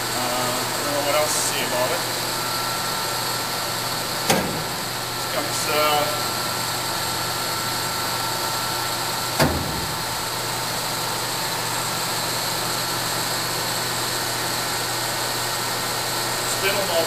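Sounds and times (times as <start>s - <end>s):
electric machinery hum: 0.0s - 17.0s.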